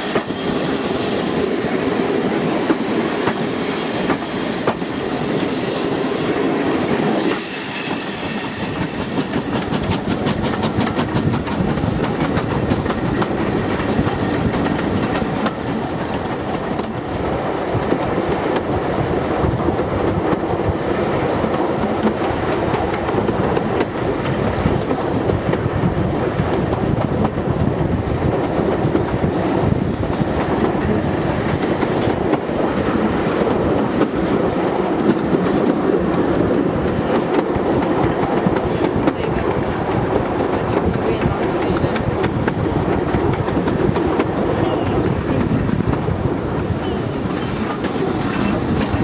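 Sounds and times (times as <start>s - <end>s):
train rumble: 0.0s - 49.0s.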